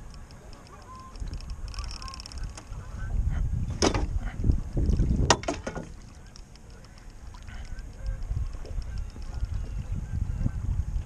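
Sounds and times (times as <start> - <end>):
wind buffeting microphone: 0.0 - 6.4, 7.2 - 11.0
water lapping around boat: 0.0 - 11.0.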